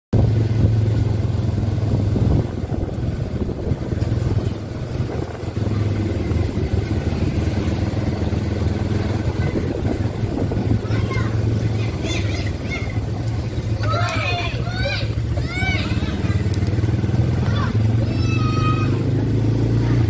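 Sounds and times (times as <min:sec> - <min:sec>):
quad bike engine running: 0:00.2 - 0:20.0.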